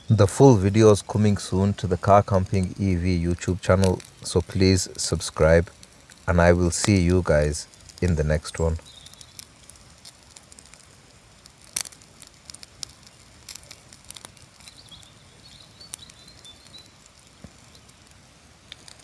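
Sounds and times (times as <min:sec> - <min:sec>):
fat popping and crackling: 0:00.0 - 0:19.0
meat sizzling in a pan: 0:00.9 - 0:19.0.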